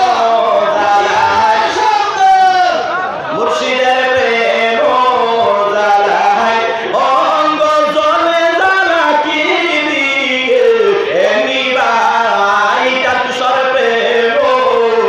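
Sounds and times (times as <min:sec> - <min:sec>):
man singing religious chant: 0:00.0 - 0:15.0.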